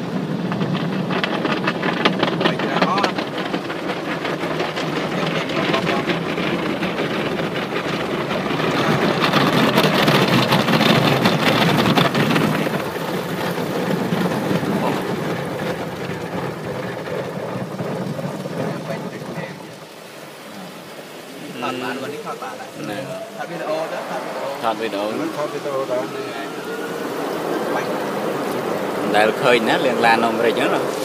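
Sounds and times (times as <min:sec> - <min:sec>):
water spraying on car: 0:00.0 - 0:31.0.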